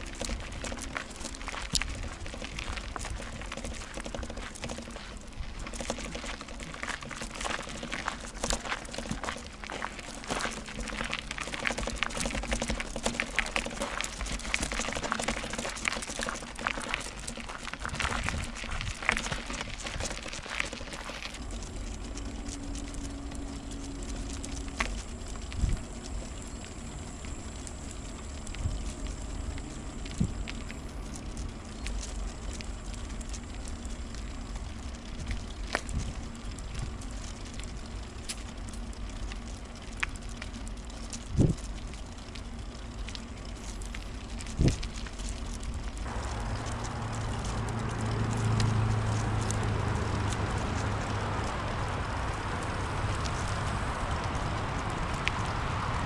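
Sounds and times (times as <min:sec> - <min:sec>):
bicycle ride rumble: 0:00.0 - 0:56.0
wicker basket rattling clicks: 0:00.0 - 0:56.0.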